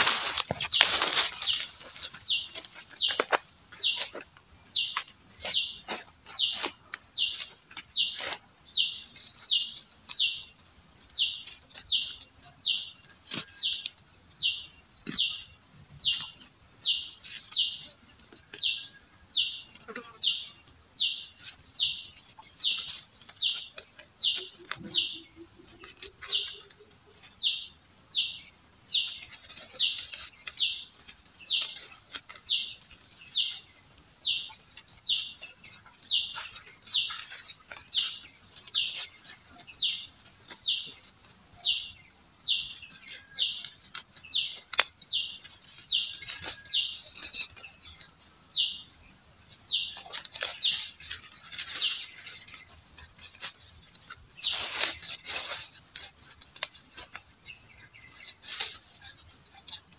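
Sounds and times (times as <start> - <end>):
dry leaves crackling: 0.0 - 59.9
insect drone: 0.0 - 59.9.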